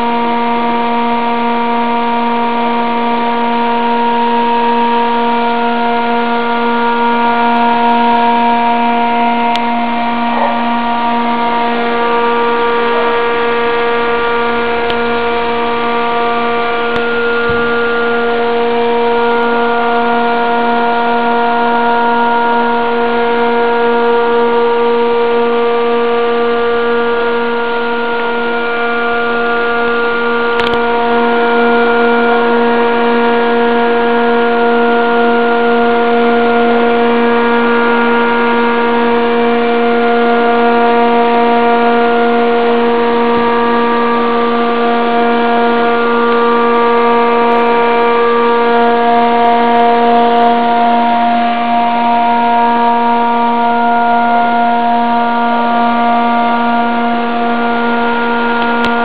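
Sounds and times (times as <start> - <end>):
loud electrical hum: 0.0 - 59.0.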